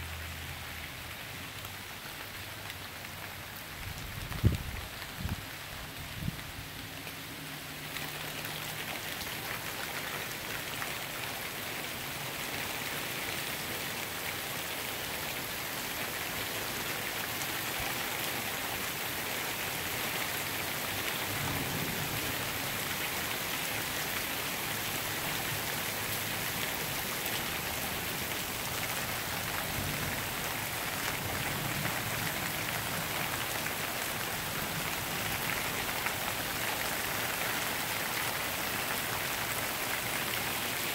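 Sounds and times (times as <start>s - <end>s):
heavy rain on pavement: 0.0s - 40.9s.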